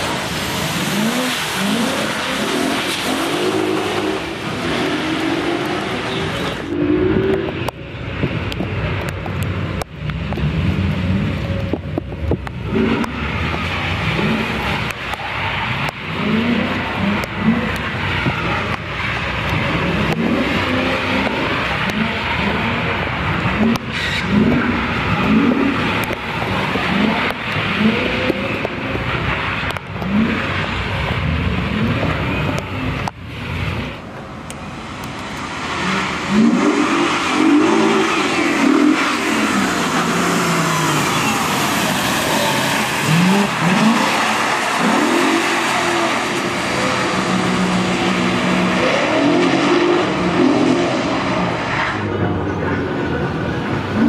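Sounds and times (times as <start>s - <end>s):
car engine revving hard: 0.0s - 7.7s, 12.5s - 32.6s, 35.4s - 52.2s
tyres hissing on wet road: 0.0s - 52.2s.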